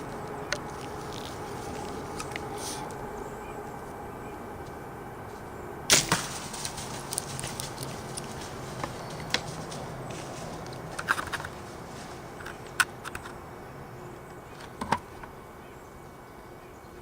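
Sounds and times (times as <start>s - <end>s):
leaves and brush crackling: 0.0s - 14.8s.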